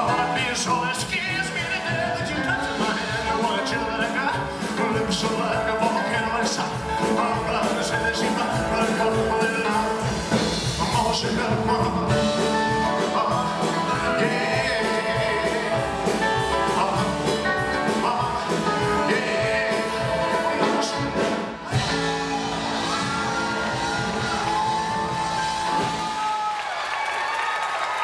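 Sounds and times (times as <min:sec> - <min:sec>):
man singing: 0:00.0 - 0:26.0
rock and roll band playing: 0:00.0 - 0:26.5.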